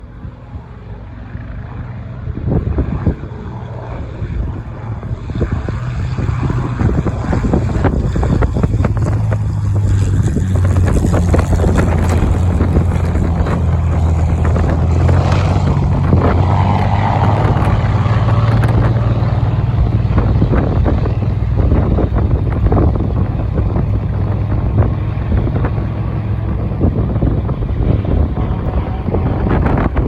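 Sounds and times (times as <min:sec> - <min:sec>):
piston engine drone: 0:00.0 - 0:30.0
wind buffeting microphone: 0:00.0 - 0:30.0.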